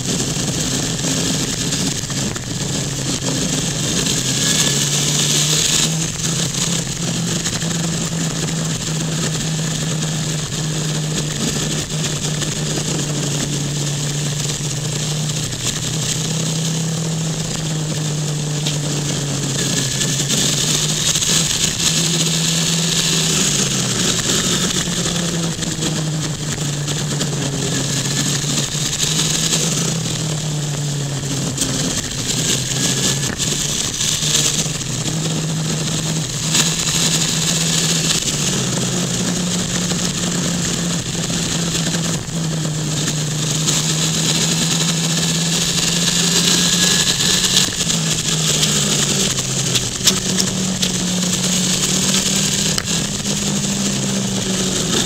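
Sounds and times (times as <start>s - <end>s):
motorcycle engine: 0.0s - 55.0s
wind rush: 0.0s - 55.0s.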